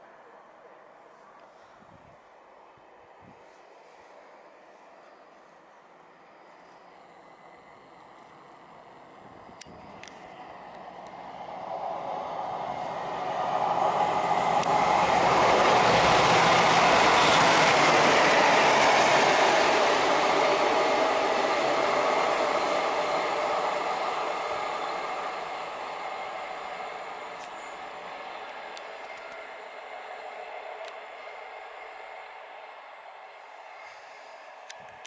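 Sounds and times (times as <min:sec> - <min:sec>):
train passing: 0:00.0 - 0:35.0.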